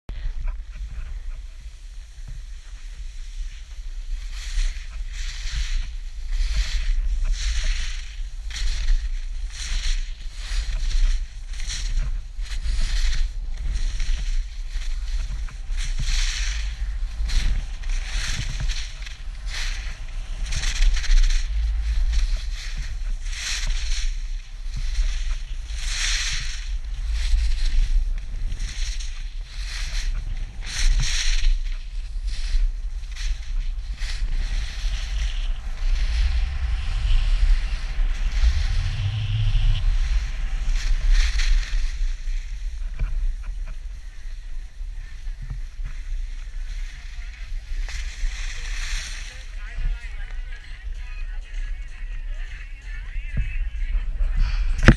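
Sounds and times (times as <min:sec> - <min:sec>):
wind rumble on microphone: 0:00.0 - 0:54.9
skis scraping on packed snow: 0:00.1 - 0:54.9.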